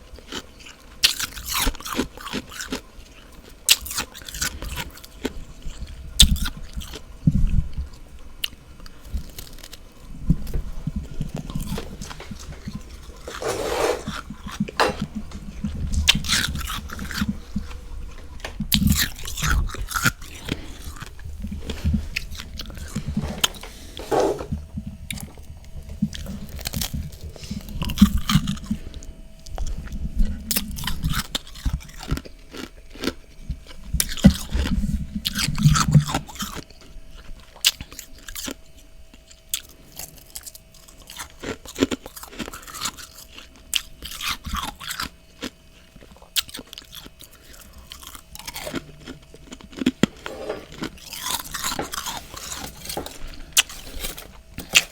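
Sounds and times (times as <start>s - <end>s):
chewing and crunching frost: 0.0s - 54.9s.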